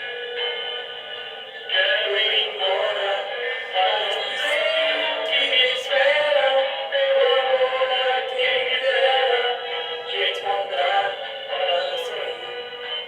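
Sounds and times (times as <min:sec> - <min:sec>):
music: 0:00.0 - 0:13.0
processed synthetic singing voice: 0:01.6 - 0:13.0.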